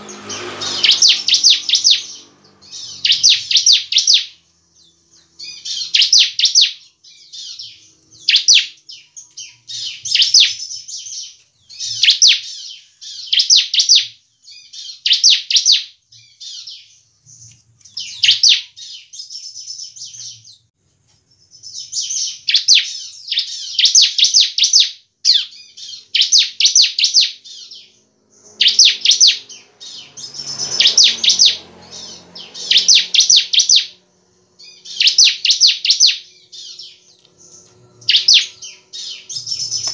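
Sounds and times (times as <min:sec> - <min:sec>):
bird singing high sharp notes: 0:00.0 - 0:20.5, 0:21.4 - 0:39.9.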